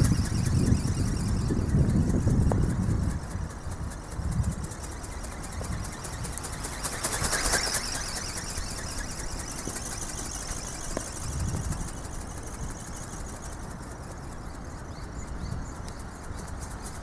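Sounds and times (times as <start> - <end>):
high-pitched motor buzz: 0.0 - 14.7
wind on microphone: 0.0 - 17.0.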